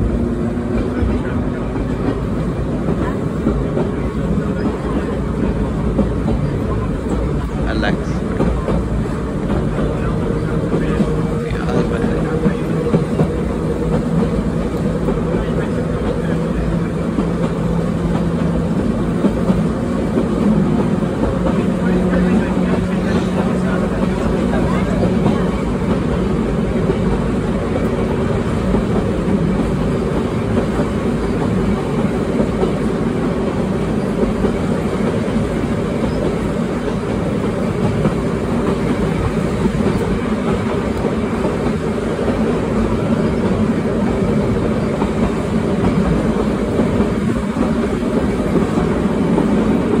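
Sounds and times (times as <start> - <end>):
tram wheels rumbling on rails: 0.0 - 50.0.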